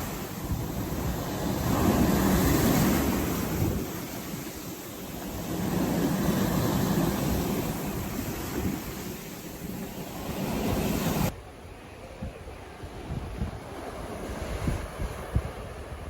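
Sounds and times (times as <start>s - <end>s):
sea waves breaking on beach: 0.0s - 16.0s
wind buffeting microphone: 0.0s - 16.0s.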